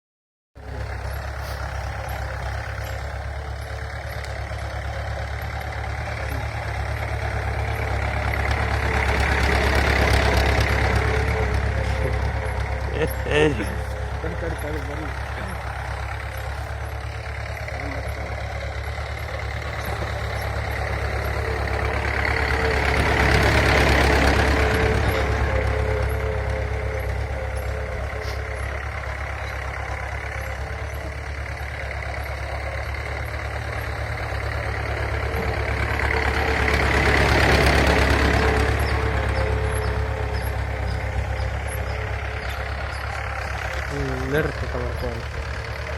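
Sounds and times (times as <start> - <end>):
tractor engine running: 0.6 - 45.9.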